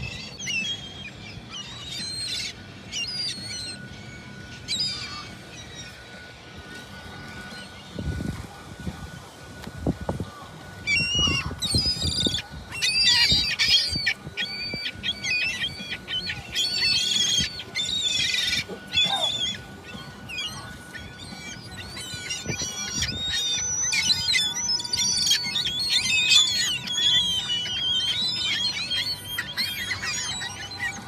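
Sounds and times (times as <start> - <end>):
gulls calling: 0.0 - 31.0.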